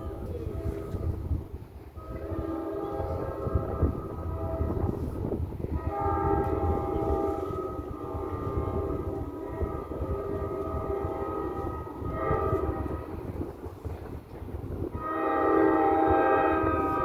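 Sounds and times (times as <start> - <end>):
train air horn blasts: 0.0 - 1.4, 2.0 - 14.0, 14.6 - 17.0.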